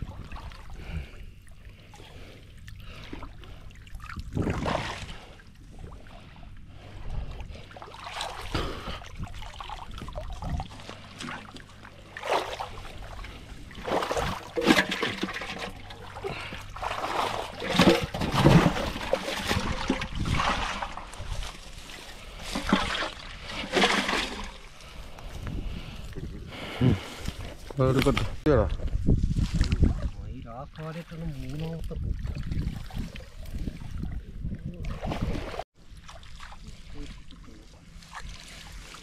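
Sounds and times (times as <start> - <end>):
muddy water splashing: 0.0 - 28.4, 29.3 - 39.0.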